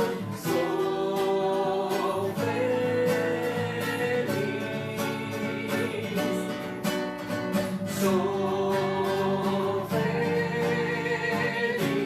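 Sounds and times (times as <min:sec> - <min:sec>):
guitar strumming: 0:00.0 - 0:12.0
person singing: 0:00.0 - 0:12.0.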